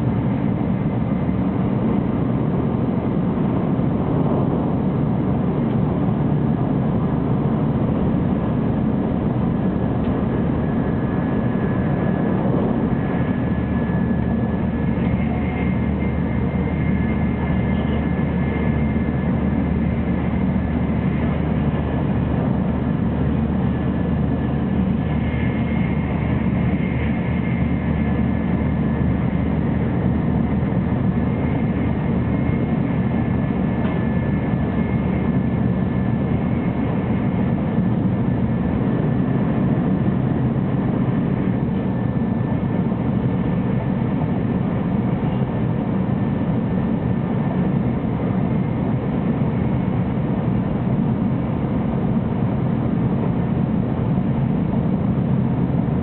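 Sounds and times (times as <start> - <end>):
train wheels on rail rumble: 0.0 - 56.0.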